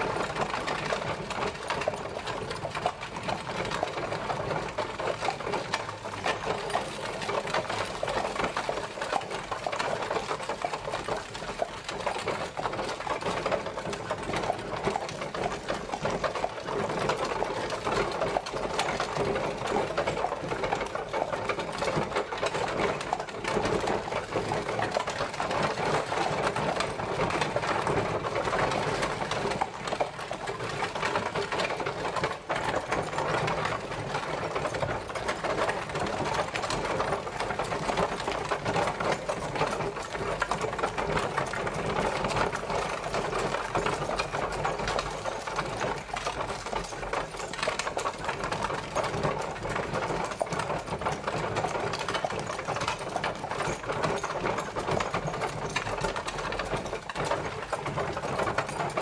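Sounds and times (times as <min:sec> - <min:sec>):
carriage wheels rattling: 0:00.0 - 0:59.0.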